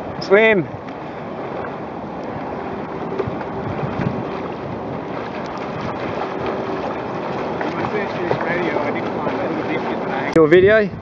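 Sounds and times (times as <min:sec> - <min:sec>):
choppy river water: 0:00.0 - 0:11.0
wind buffeting microphone: 0:00.0 - 0:11.0.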